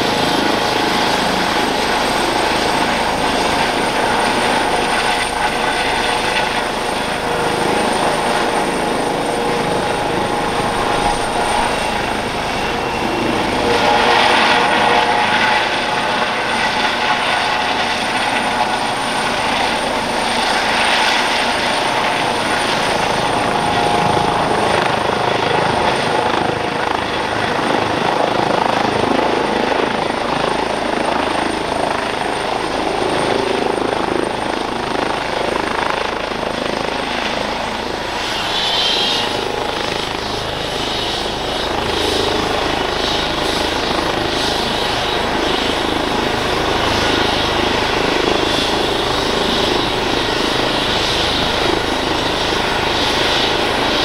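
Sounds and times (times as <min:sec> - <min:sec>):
helicopter rotor noise: 0:00.0 - 0:54.0
turbine and tail rotor whine: 0:00.0 - 0:54.0.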